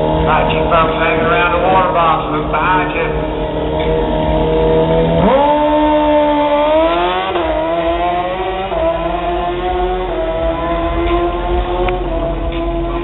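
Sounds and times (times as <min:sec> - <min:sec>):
motorcycle engine revving through gears: 0:00.0 - 0:02.0, 0:03.2 - 0:13.0.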